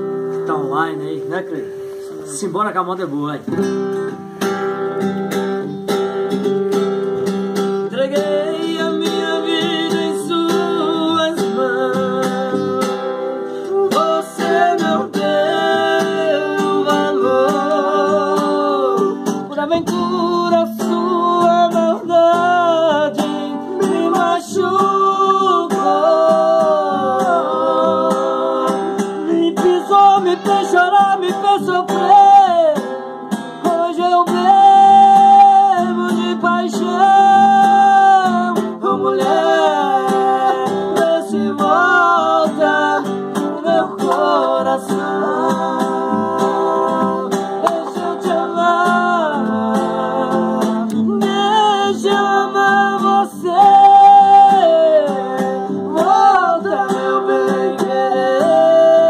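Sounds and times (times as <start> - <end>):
strummed acoustic guitar: 0.0 - 59.0
man singing a ballad: 7.8 - 59.0.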